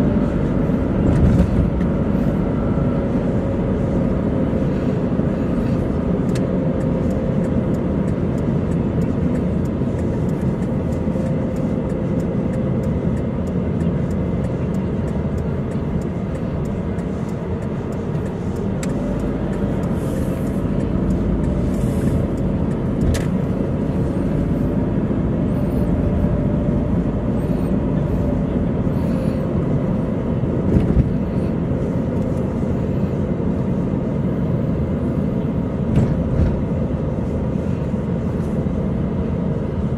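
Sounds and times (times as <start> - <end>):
faint wavering whine: 0.0 - 39.6
car engine and tyre rumble: 0.0 - 39.9.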